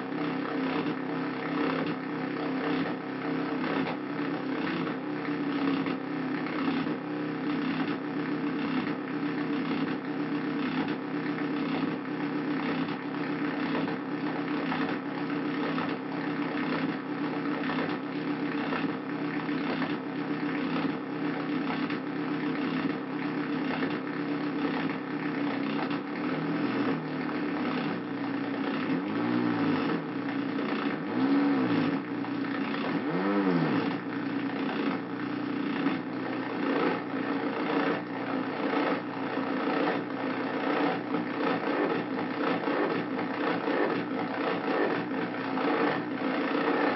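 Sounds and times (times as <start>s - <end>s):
buzzing synthesizer drone: 0.0s - 46.9s.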